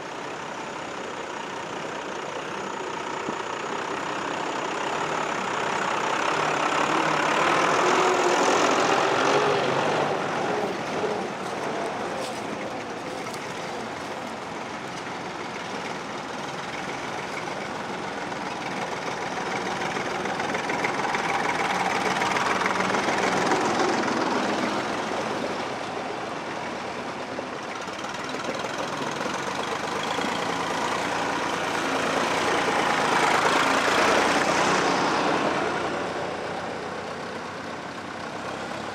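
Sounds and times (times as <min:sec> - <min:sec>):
tractor engines driving past: 0:00.0 - 0:38.9.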